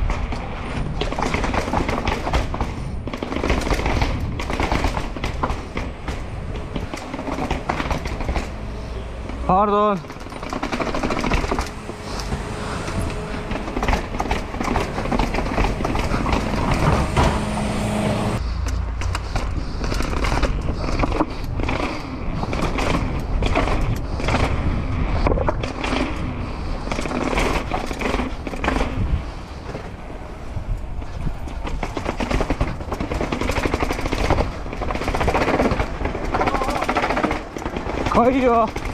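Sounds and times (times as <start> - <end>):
bike rattling: 0.0 - 38.9
tyres clattering over bumps: 0.0 - 38.9
wind buffeting microphone: 0.0 - 38.9.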